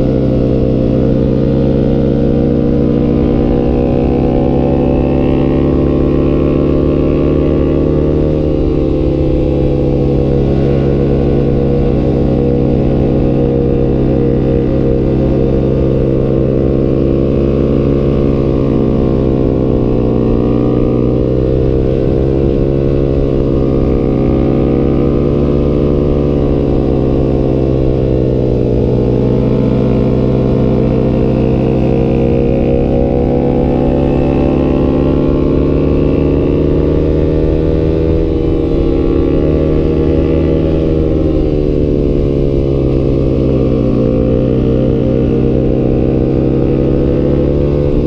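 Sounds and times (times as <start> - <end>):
motorcycle engine cruising: 0.0 - 48.0.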